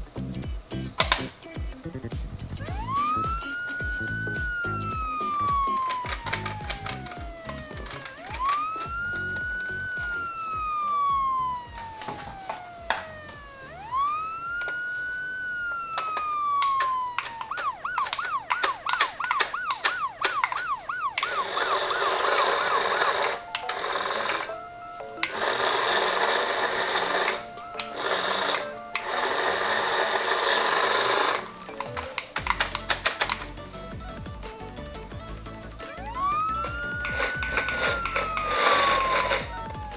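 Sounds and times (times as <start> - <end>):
toy ambulance siren: 2.6 - 39.9
toy car motor whirring: 2.6 - 39.9.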